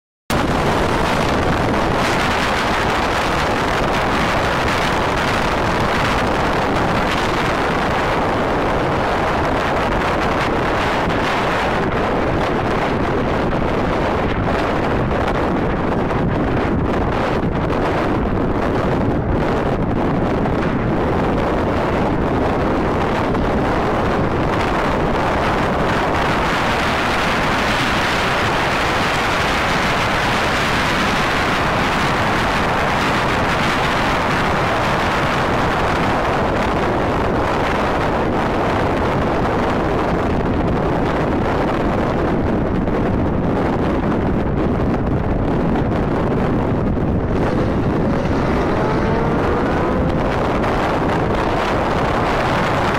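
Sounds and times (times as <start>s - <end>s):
car road noise: 0.3s - 41.1s, 43.3s - 52.9s
wind on microphone: 0.3s - 52.9s.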